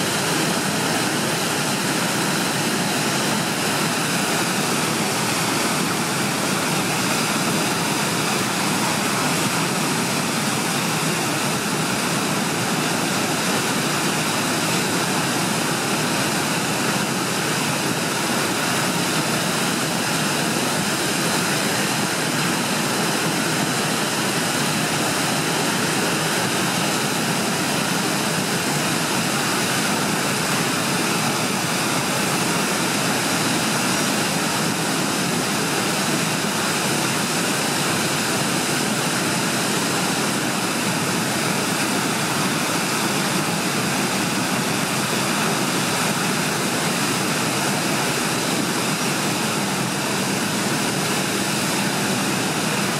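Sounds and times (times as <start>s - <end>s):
roar of white water rapids: 0.0s - 52.9s.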